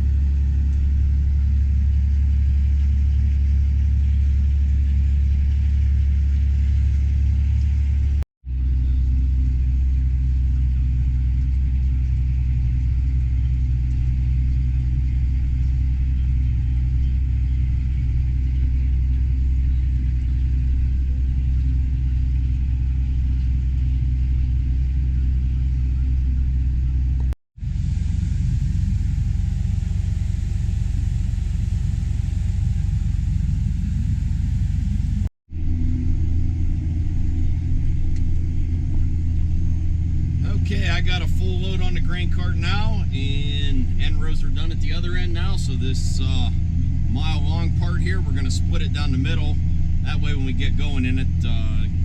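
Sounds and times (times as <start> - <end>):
tractor engine droning: 0.0 - 52.0.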